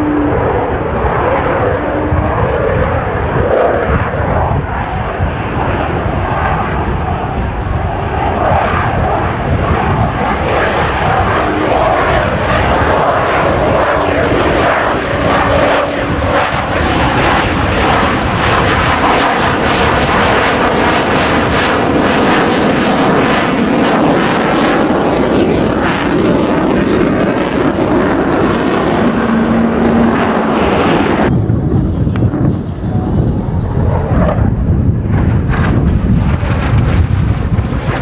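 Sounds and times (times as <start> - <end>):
jet engine roaring with crackle: 0.0 - 38.0.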